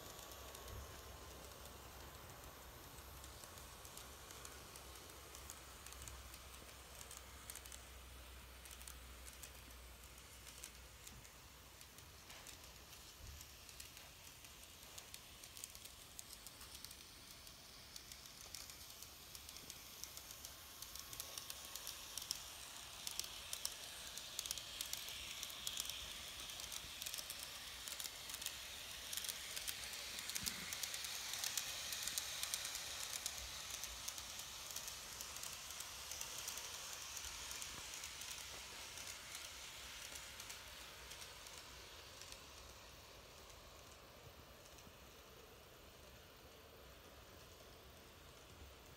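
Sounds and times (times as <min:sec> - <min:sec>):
light hiss: 0:00.0 - 0:48.9
model train wheels clicking on rails: 0:00.0 - 0:48.9.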